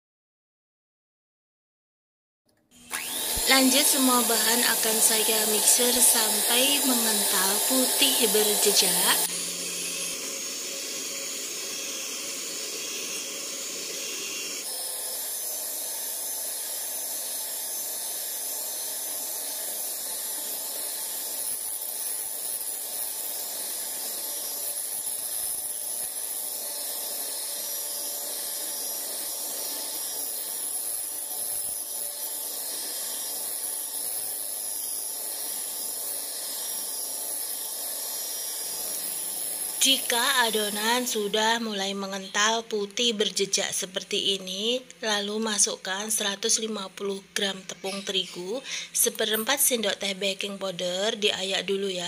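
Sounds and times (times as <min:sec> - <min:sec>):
electric hand mixer whipping: 0:02.6 - 0:52.0.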